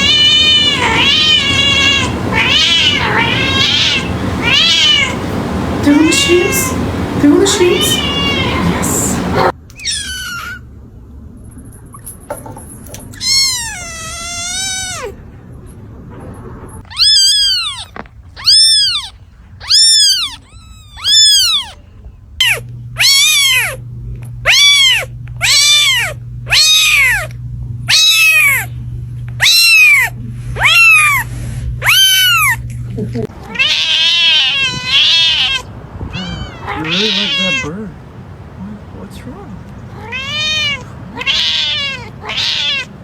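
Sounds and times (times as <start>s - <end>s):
steady low hum: 0.0s - 9.7s, 10.6s - 43.0s
cat meowing: 0.0s - 10.7s, 13.2s - 15.2s, 16.8s - 38.0s, 39.8s - 43.0s.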